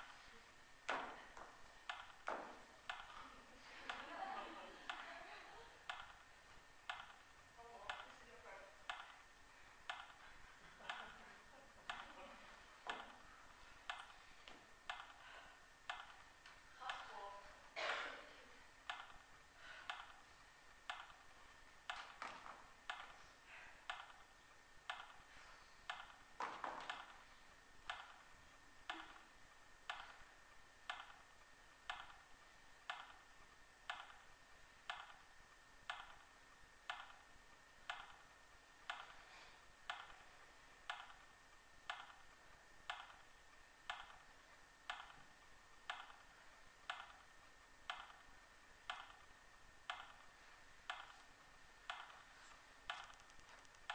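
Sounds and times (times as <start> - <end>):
clock ticking: 1.8 - 3.2, 4.8 - 5.1, 5.8 - 17.2, 18.8 - 23.2, 23.8 - 53.9.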